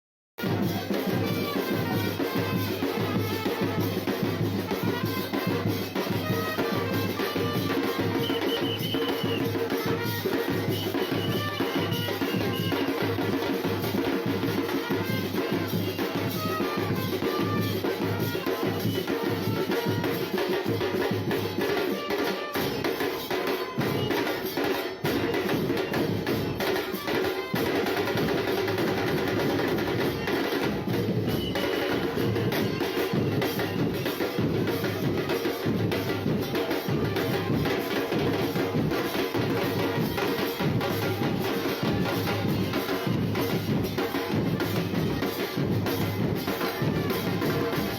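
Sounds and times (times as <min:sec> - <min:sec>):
drums pounding march beat: 0:00.4 - 0:47.9.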